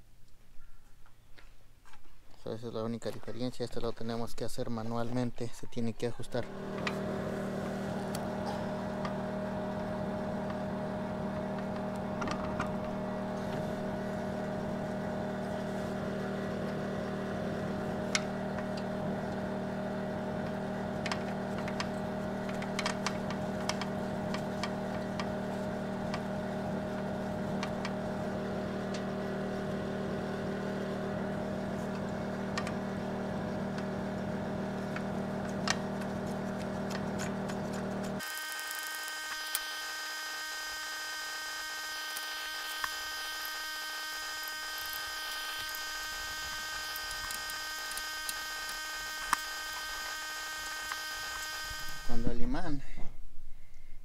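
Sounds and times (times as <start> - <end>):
generator engine humming: 6.2 - 52.6.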